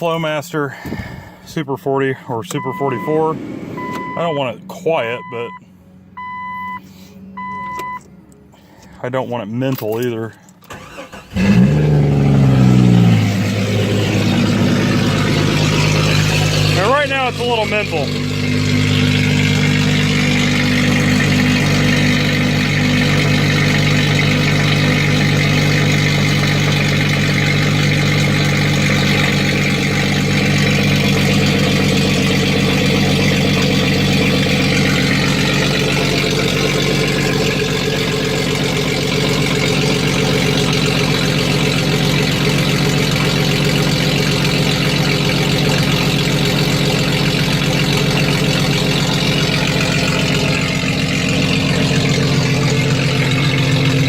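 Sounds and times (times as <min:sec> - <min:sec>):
car engine idling loudly: 0:10.7 - 0:54.0.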